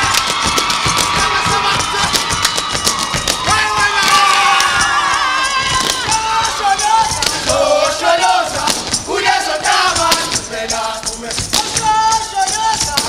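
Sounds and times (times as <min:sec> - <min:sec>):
group singing and chanting: 0:00.0 - 0:13.0.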